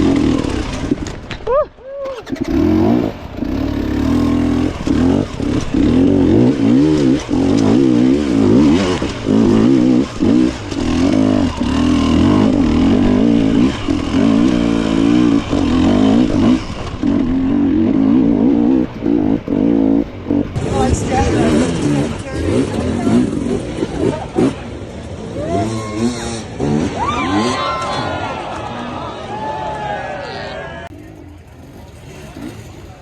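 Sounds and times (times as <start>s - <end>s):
dirt bike engine revving: 0.0s - 1.3s, 2.1s - 28.6s, 30.9s - 33.0s.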